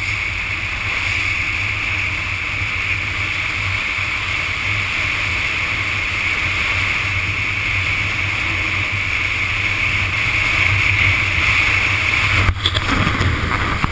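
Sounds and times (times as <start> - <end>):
motorcycle engine running: 0.0 - 13.9
wind rush: 0.0 - 13.9.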